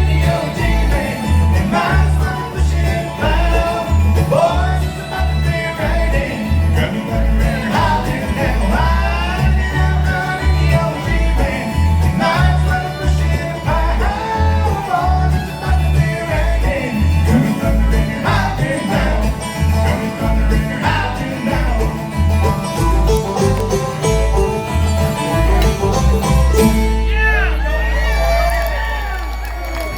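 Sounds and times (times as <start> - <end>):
bluegrass band playing: 0.0 - 28.7
bass line: 0.0 - 29.7.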